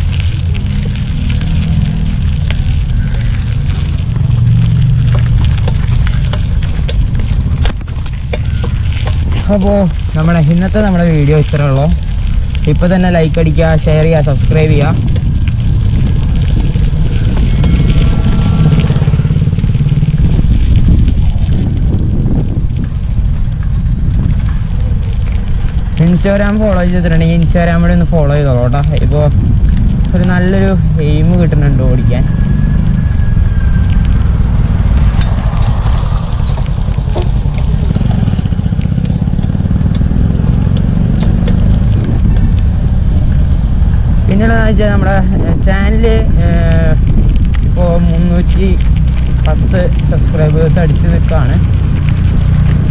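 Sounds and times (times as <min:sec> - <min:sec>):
bike tyres on dirt road: 0:00.0 - 0:52.9
wind rumbling on microphone: 0:00.0 - 0:52.9.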